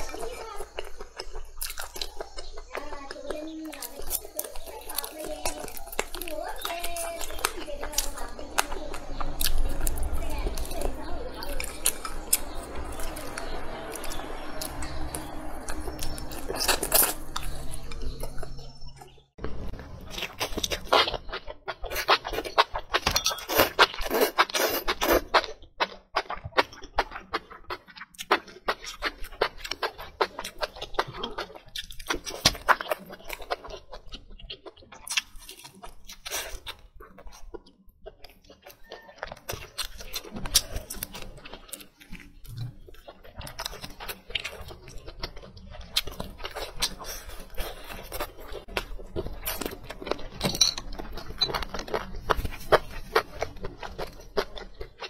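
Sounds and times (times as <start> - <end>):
close chewing with mouth smacks: 0.0 - 55.0.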